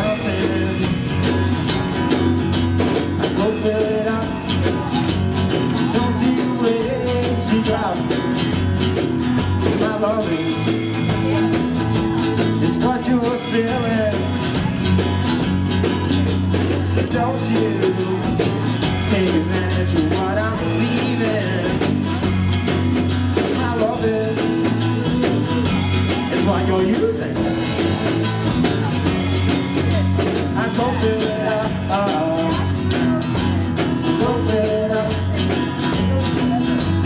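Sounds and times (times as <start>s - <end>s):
man singing: 0.0s - 15.0s, 16.8s - 37.0s
acoustic guitar strumming: 0.0s - 37.0s
drum kit: 0.0s - 37.0s
electric bass: 0.0s - 37.0s.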